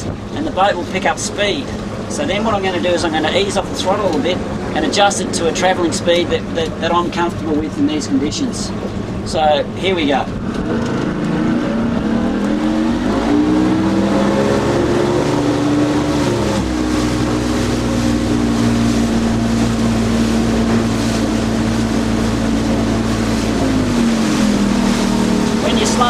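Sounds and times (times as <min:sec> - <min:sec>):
speed boat engine revving: 0:00.0 - 0:26.0.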